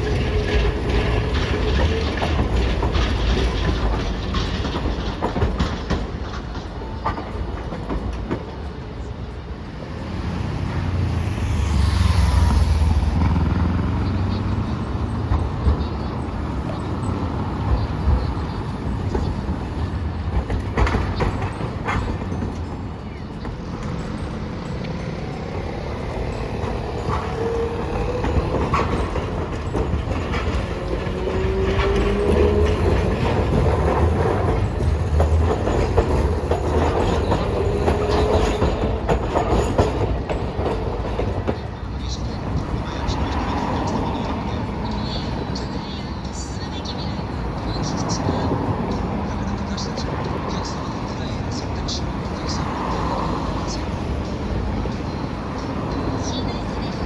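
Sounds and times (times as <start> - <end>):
streetcar whine: 0.0 - 57.0
tram wheels clacking over rails: 0.0 - 57.0
passing vehicle rumble: 9.6 - 57.0.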